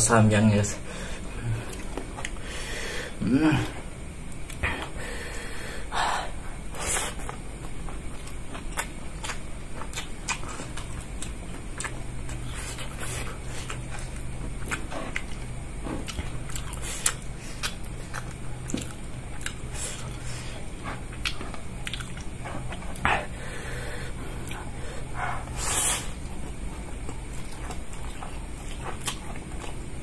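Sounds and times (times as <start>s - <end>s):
man chewing: 1.2s - 2.5s, 3.1s - 30.0s.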